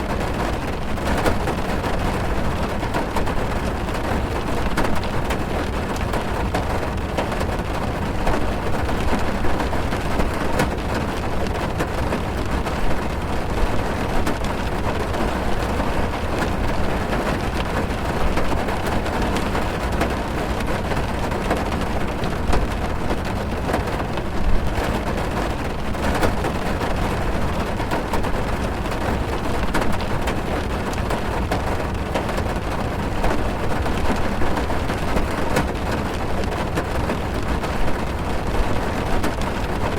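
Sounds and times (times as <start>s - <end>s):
rain drumming on car roof: 0.0s - 39.9s.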